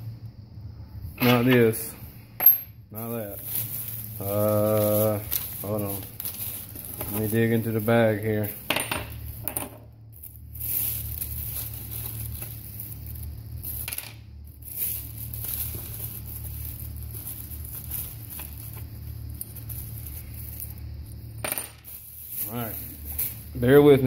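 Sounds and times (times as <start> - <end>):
plastic bag rustling: 3.0 - 24.0.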